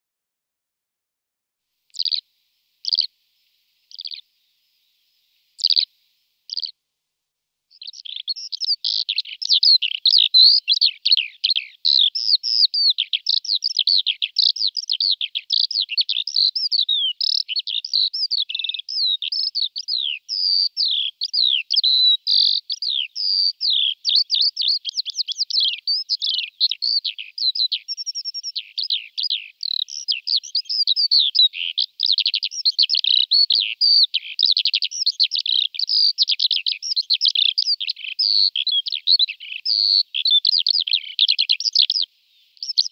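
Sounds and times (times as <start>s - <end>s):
skylarks calling and singing: 1.9s - 2.2s, 2.8s - 3.1s, 3.9s - 4.2s, 5.6s - 5.9s, 6.5s - 6.7s, 7.7s - 42.9s.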